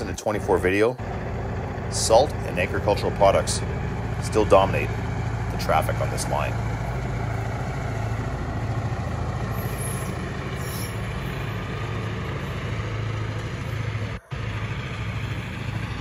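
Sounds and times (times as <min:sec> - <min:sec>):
freight train wheels rumbling on rail: 0:00.0 - 0:16.0
low hum: 0:01.0 - 0:16.0.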